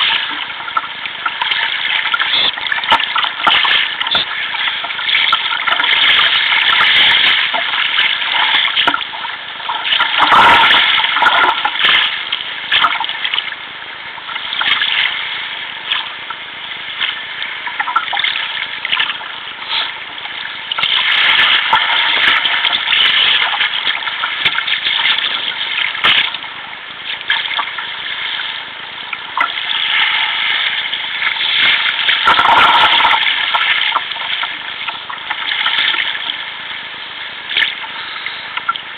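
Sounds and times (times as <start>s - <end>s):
water splashing along kayak hull: 0.0s - 38.9s.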